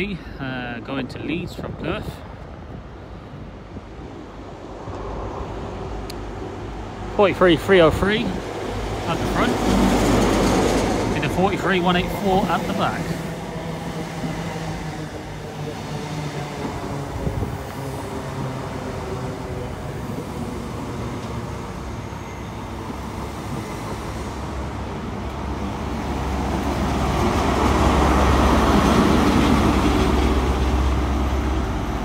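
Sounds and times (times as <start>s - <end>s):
diesel train engines and wheels: 0.0s - 32.0s.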